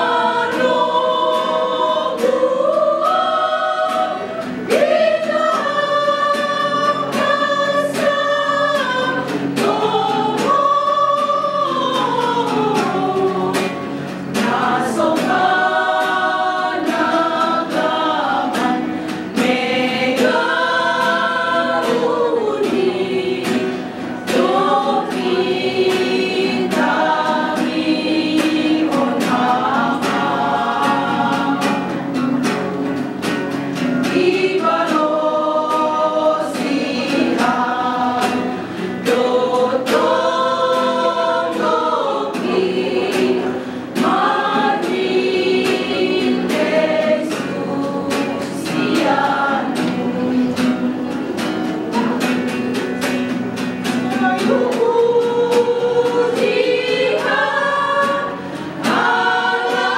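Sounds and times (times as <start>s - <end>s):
women's group singing a hymn: 0.0s - 59.9s.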